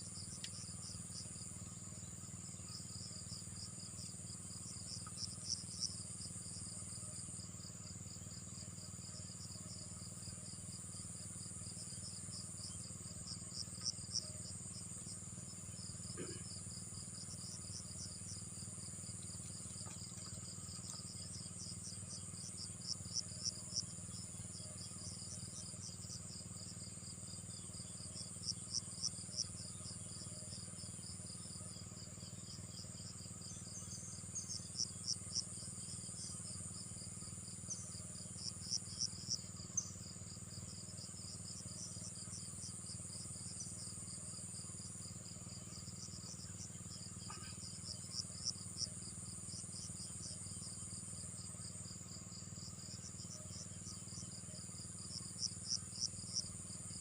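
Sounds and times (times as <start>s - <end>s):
insects chirping in trills: 0.0s - 57.0s.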